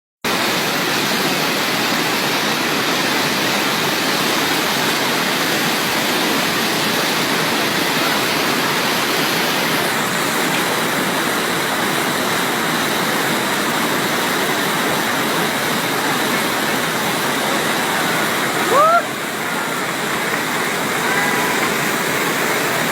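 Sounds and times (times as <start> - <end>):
waterfall rushing: 0.3 - 22.9.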